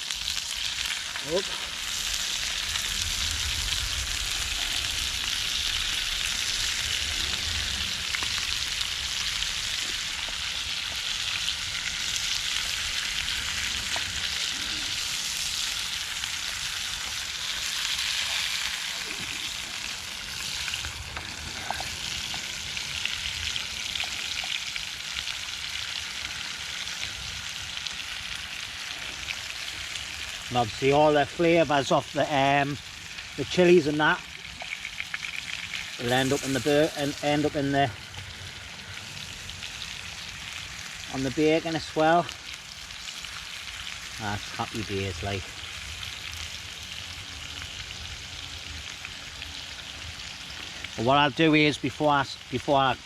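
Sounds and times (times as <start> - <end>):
bacon sizzling in a pan: 0.0 - 53.0
campfire pops and crackles: 0.0 - 53.0.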